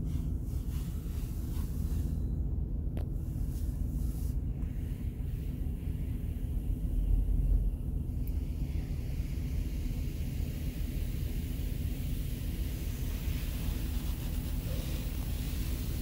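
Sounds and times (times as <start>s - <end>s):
muffled car wash rumble: 0.0s - 16.0s.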